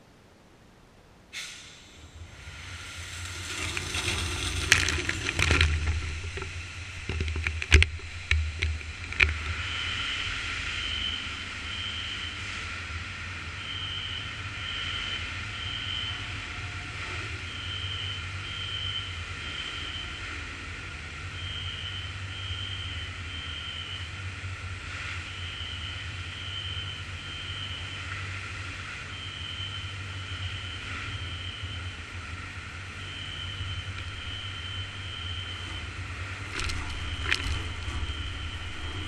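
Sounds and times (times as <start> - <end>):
low machinery hum: 0.0 - 39.0.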